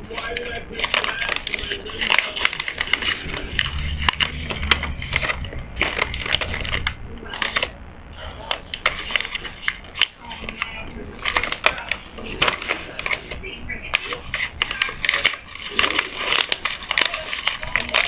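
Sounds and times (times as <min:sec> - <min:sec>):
paper crinkling: 0:00.0 - 0:18.0.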